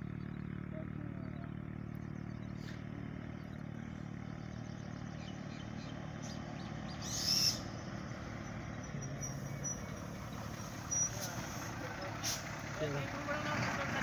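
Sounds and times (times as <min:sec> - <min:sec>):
bus diesel engine humming: 0:00.0 - 0:14.0.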